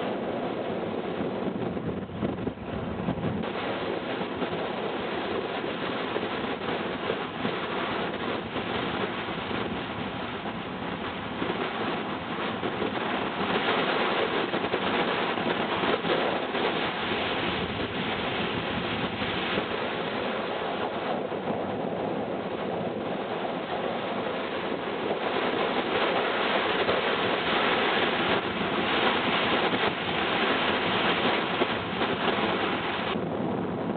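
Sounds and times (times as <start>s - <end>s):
waves breaking on shore: 0.0s - 33.9s
wind on microphone: 0.0s - 33.9s.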